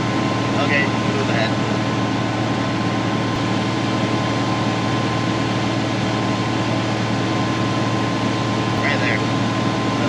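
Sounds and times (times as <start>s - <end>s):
auger mechanical hum: 0.0s - 10.0s
thin whine: 0.0s - 10.0s.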